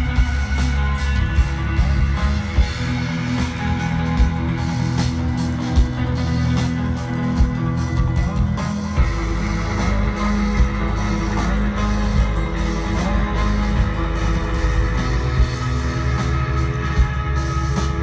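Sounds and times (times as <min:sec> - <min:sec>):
bass guitar: 0:00.0 - 0:18.0
electric guitars: 0:00.0 - 0:18.0.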